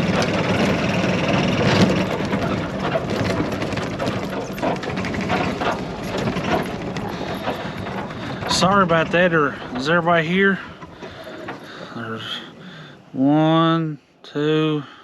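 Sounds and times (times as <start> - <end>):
knocks and rattles: 0.0 - 13.0
vehicle engine running: 0.0 - 13.0.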